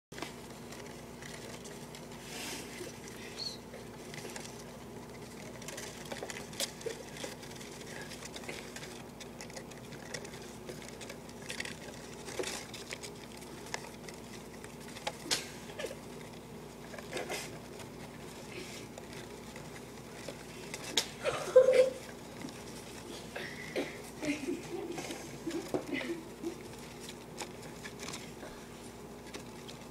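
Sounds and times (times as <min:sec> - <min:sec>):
mice scratching on cardboard: 0:00.1 - 0:29.9
steady low hum: 0:00.1 - 0:29.9.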